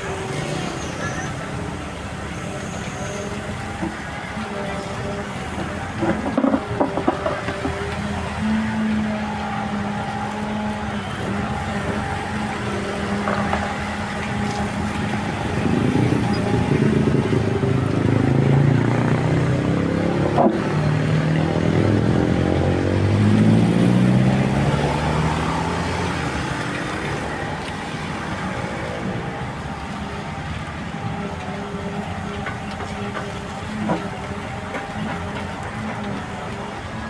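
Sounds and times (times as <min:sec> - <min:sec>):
heavy machine engine working: 0:00.0 - 0:37.0.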